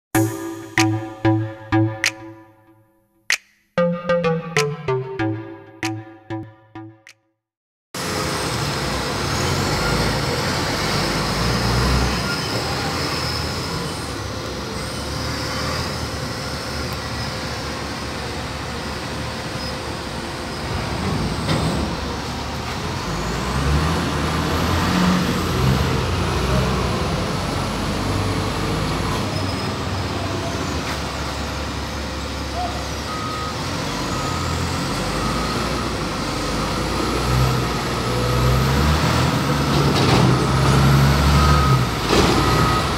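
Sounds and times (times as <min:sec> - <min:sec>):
heavy diesel engines rumbling: 0:08.2 - 0:42.9.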